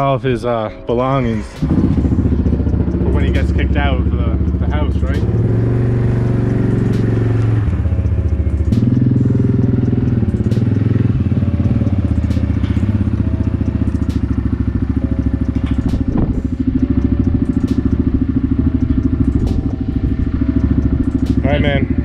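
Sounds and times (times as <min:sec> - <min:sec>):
atv engine running: 0:01.4 - 0:22.0.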